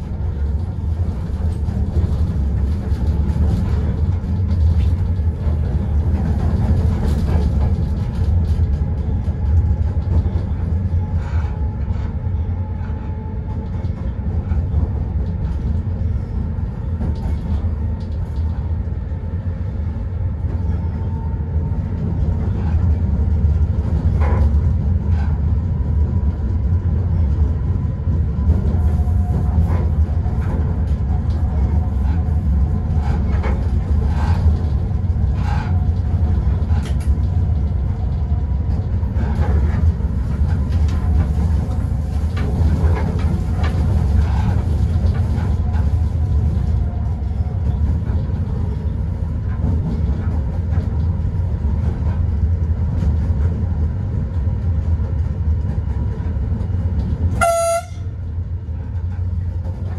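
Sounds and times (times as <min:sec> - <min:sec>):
locomotive low rumble: 0:00.0 - 0:59.9.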